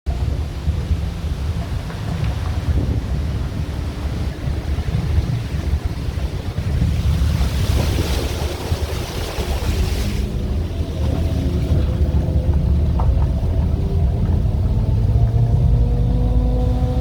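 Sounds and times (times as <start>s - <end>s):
wind buffeting microphone: 0.0s - 17.0s
low rumble: 0.1s - 17.0s.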